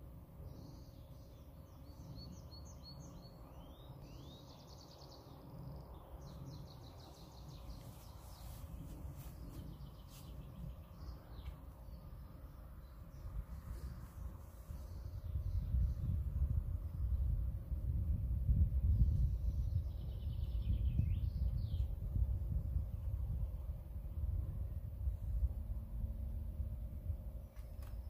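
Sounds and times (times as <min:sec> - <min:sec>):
small birds chirping: 0:00.0 - 0:17.8, 0:18.5 - 0:24.4, 0:26.7 - 0:28.0
steady low rumble: 0:00.0 - 0:28.0.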